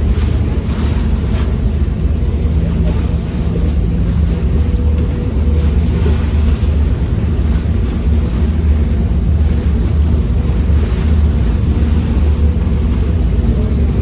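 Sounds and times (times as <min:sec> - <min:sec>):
ferry engine rumbling: 0:00.0 - 0:14.0
water rushing past hull: 0:00.0 - 0:14.0
wind on microphone: 0:00.0 - 0:14.0.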